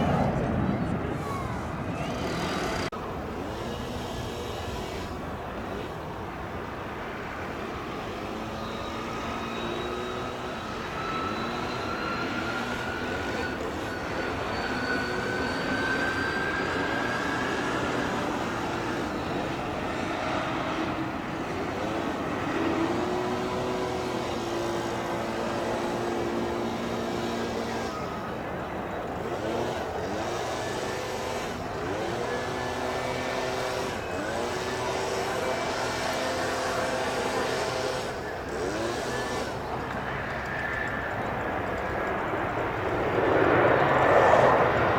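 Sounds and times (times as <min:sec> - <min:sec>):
jet airliner engines rumbling: 0:00.0 - 0:44.9
rising engine whine: 0:00.0 - 0:44.9.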